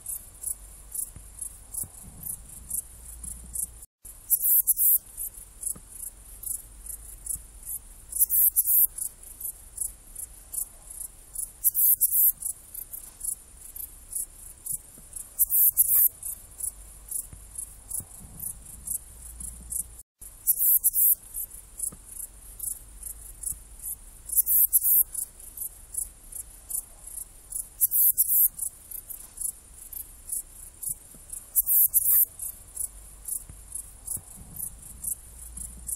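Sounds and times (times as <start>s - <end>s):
bush-cricket chirping: 0.0s - 35.9s.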